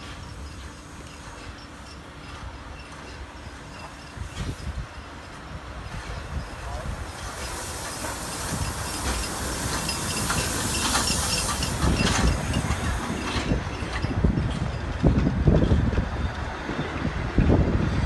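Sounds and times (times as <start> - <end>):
steam locomotive hissing: 0.0 - 18.0
train wheels clicking over rail joints: 0.0 - 18.0.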